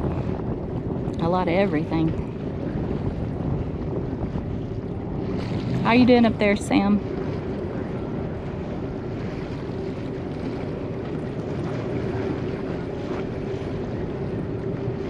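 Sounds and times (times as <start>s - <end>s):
boat engines idling: 0.0s - 15.0s.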